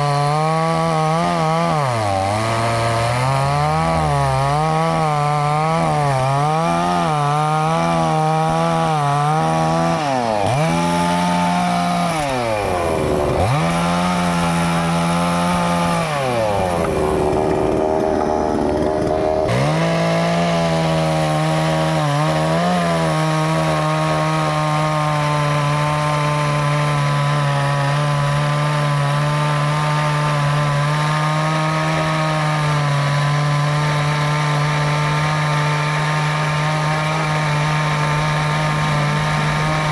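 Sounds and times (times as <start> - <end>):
chainsaw cutting: 0.0 - 39.9.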